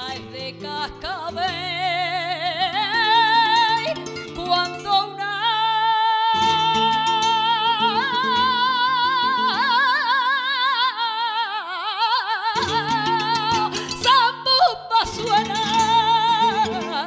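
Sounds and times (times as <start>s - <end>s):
flamenco guitar: 0.0s - 17.0s
woman singing flamenco: 0.0s - 17.0s.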